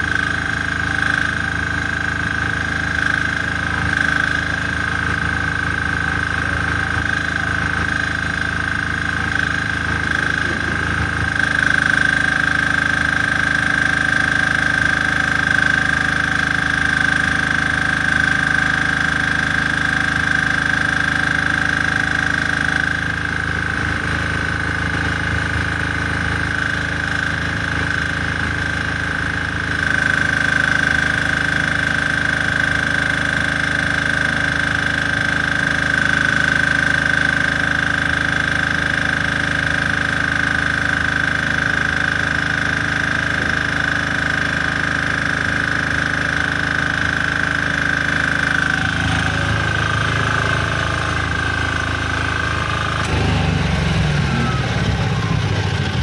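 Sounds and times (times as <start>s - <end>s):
welding generator engine running: 0.0s - 56.0s.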